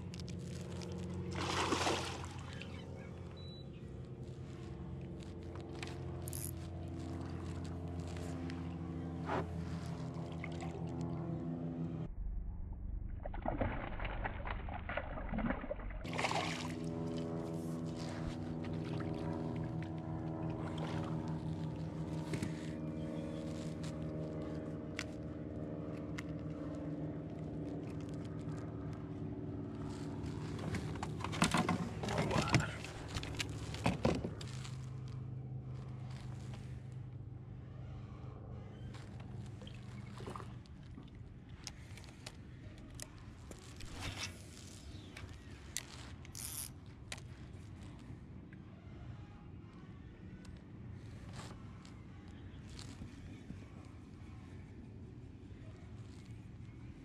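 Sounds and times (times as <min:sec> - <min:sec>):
steady motor hum: 0:00.0 - 0:12.3, 0:14.6 - 0:57.0.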